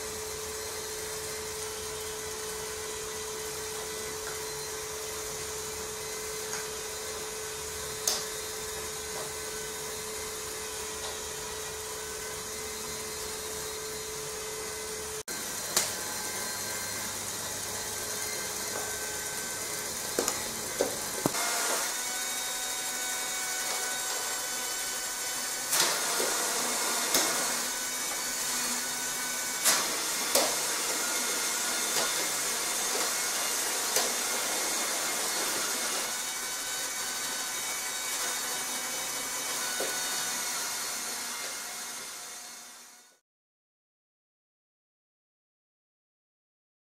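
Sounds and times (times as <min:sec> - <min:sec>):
small electric motor whirring: 0:00.0 - 0:43.2.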